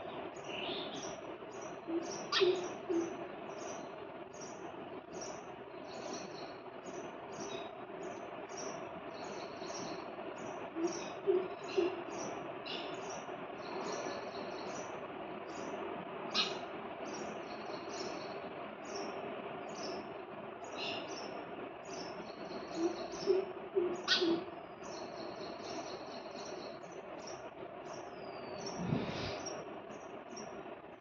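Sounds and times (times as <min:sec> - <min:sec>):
sparrows chirping: 0:00.0 - 0:30.7.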